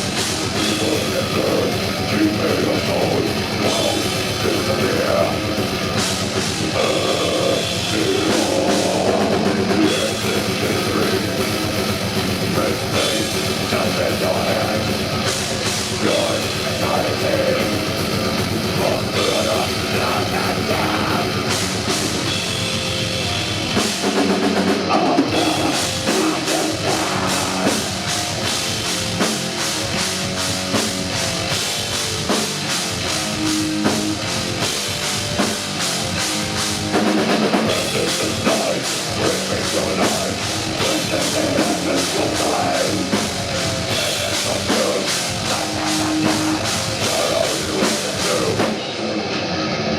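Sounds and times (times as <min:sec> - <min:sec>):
drum kit: 0:00.0 - 0:49.9
heavy metal band playing: 0:00.0 - 0:49.9.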